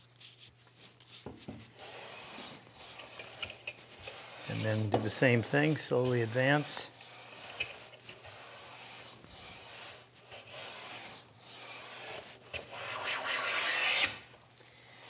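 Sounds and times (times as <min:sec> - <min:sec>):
hand plane rubbing on wood: 0:01.1 - 0:14.2.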